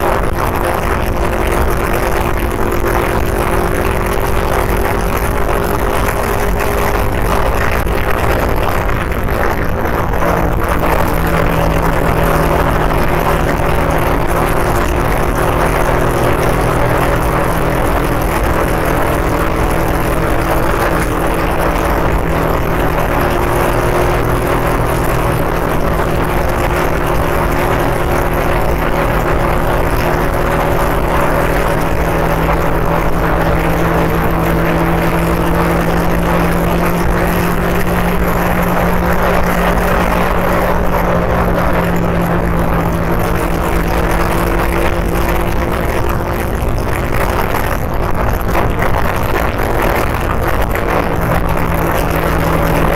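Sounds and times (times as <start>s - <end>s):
motorcycle engine cruising: 0.0s - 52.9s
road rush: 0.0s - 52.9s
wind noise: 0.0s - 52.9s.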